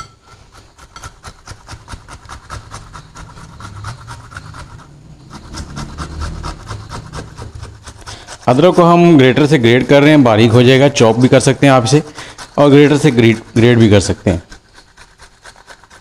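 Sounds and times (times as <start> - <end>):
ginger rasping on metal grater: 0.0 - 16.0.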